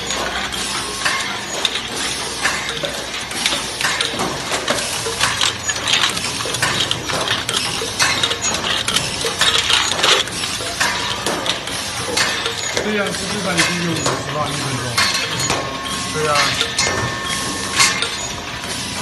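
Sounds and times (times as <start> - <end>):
filling machine metal clatter: 0.0 - 19.0.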